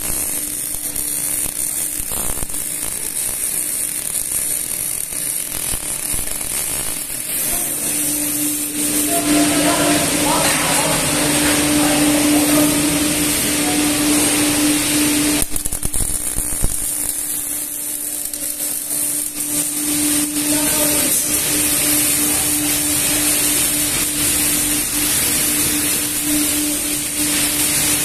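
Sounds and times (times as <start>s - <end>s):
welding arc crackle: 0.0s - 28.0s
workshop machinery hum: 0.0s - 28.0s.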